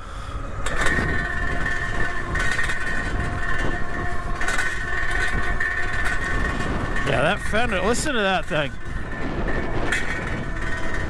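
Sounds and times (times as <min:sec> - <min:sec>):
electric motor whine: 0:00.0 - 0:11.0
road rumble: 0:00.0 - 0:11.0
wind: 0:00.0 - 0:11.0.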